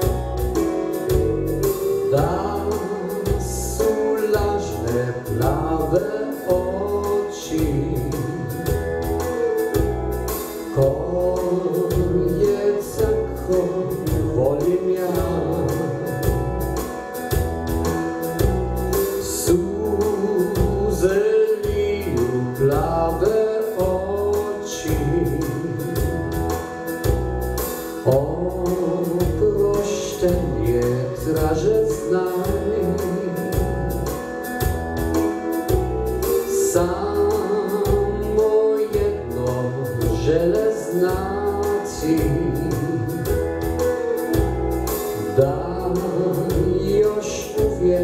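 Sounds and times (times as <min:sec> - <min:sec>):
man singing into microphone: 0:00.0 - 0:17.2, 0:19.0 - 0:26.5, 0:27.9 - 0:48.0
backing music with low beat: 0:00.0 - 0:48.0.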